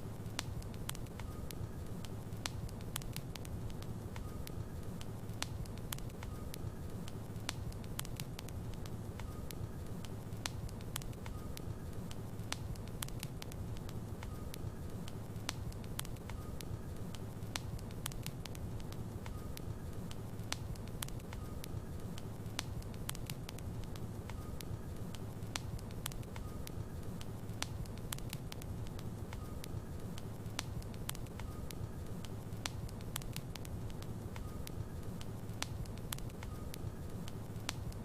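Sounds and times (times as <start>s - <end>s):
wood crackles and pops: 0.0s - 38.0s.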